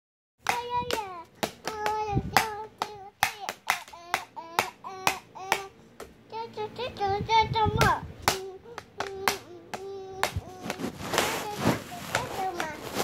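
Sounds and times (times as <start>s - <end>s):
child beating toy drum: 0.4s - 6.2s, 7.8s - 13.0s
child singing: 0.4s - 13.0s.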